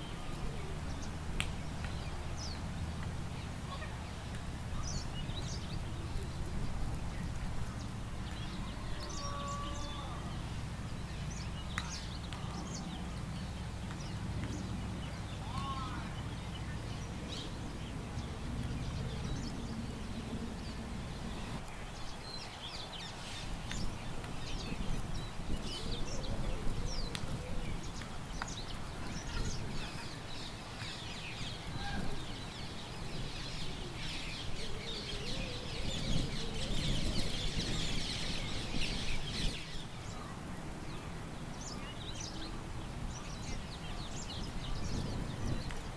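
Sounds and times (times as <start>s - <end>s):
low wind rumble: 0.0s - 45.9s
small birds chirping: 0.0s - 45.9s.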